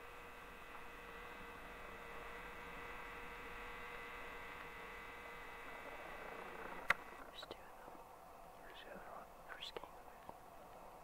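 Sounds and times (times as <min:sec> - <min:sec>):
faint steady tonal hum: 0:00.0 - 0:11.0.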